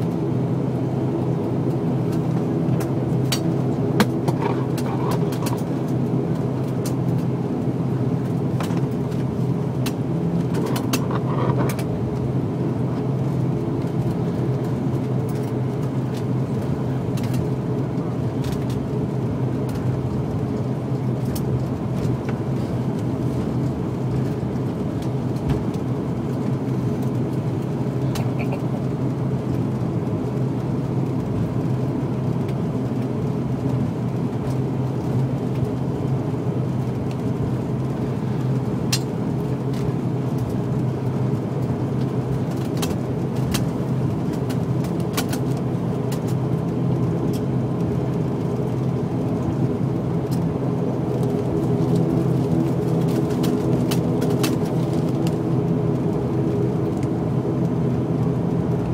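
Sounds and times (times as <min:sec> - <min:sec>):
turboprop engines droning: 0:00.0 - 0:58.9.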